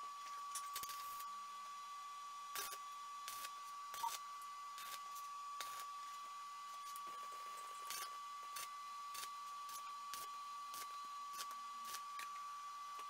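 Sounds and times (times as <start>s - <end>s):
high-pitched electrical whine: 0.0s - 13.0s.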